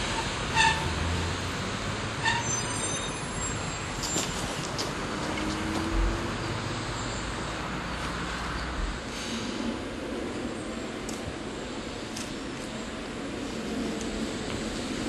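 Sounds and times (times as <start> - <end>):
electric train running on track: 0.0 - 15.0.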